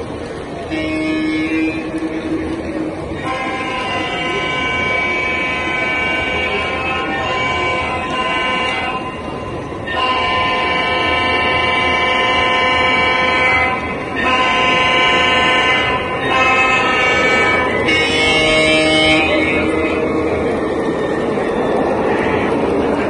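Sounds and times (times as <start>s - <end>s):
train rumbling on track: 0.0s - 23.0s
model train horn blasts: 0.6s - 20.6s.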